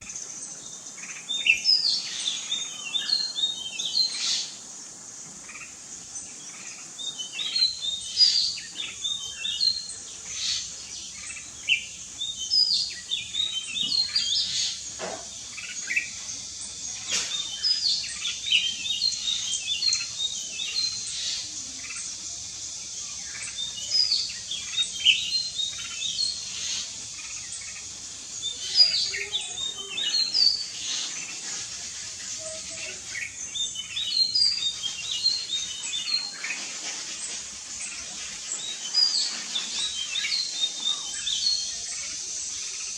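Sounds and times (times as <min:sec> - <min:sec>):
birds chirping and whistling: 0:00.0 - 0:04.7, 0:05.4 - 0:42.9
steady high-pitched hiss: 0:00.0 - 0:42.9.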